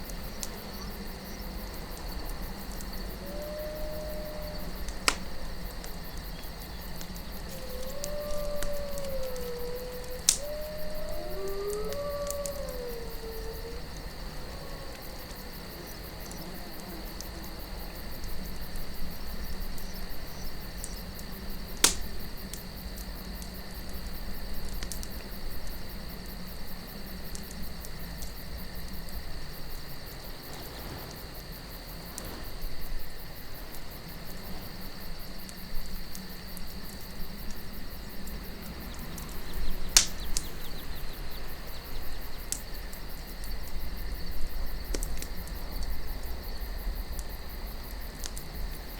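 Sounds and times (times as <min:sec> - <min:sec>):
campfire crackling: 0:00.0 - 0:48.9
crickets chirring: 0:00.0 - 0:48.9
low wind: 0:00.0 - 0:48.9.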